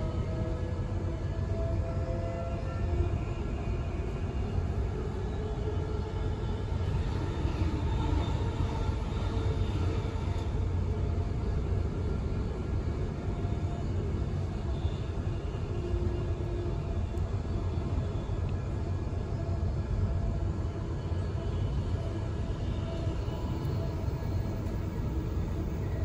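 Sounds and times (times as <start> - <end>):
train running at speed rumble: 0.0 - 26.0.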